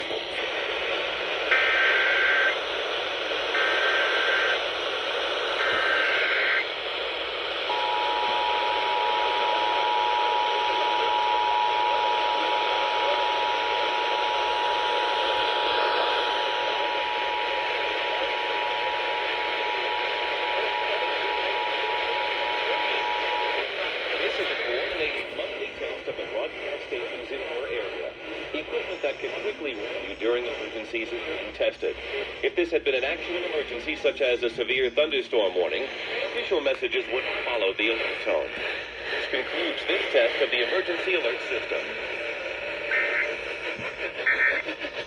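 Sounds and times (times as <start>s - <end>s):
radio hiss: 0.0s - 45.0s.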